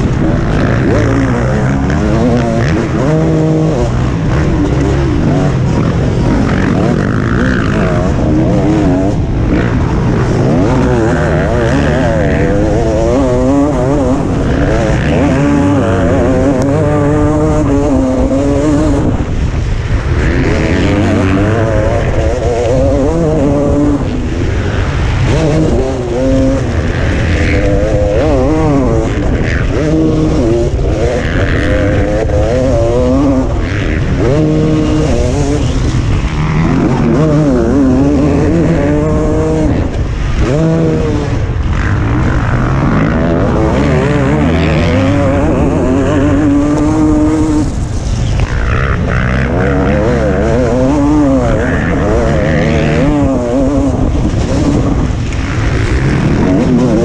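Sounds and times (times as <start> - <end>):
motocross bike engine revving: 0.0 - 57.0
wind noise: 0.0 - 57.0.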